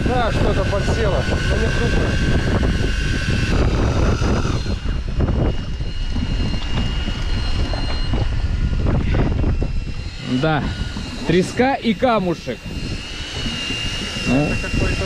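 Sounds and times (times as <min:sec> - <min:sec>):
electric fishing reel whining: 0:00.0 - 0:15.0
wind buffeting microphone: 0:00.0 - 0:15.0.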